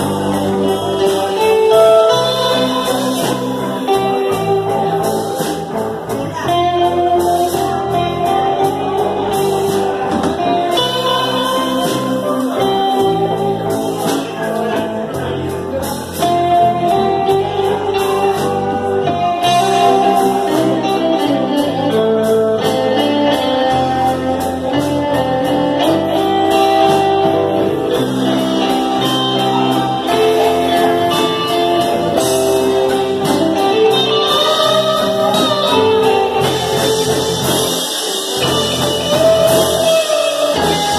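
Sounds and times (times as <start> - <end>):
person singing: 0.0 - 15.2, 16.2 - 40.9
bass guitar: 0.0 - 40.9
drum kit: 0.0 - 40.9
electric guitars: 0.0 - 40.9.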